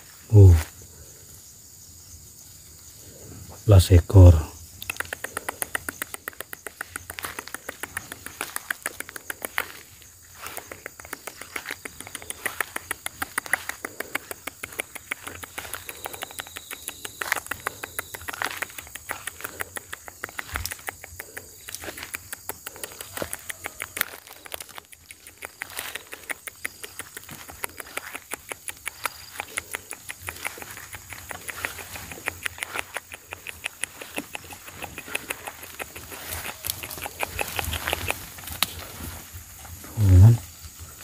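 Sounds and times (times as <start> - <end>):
faint high insect drone: 0.0 - 41.0
crackling clicks in vegetation: 4.7 - 40.8.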